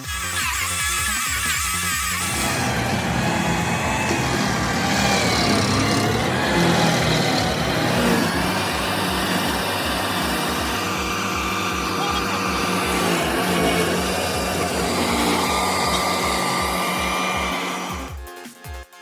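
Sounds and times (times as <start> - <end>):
stump grinder engine running: 0.0 - 18.2.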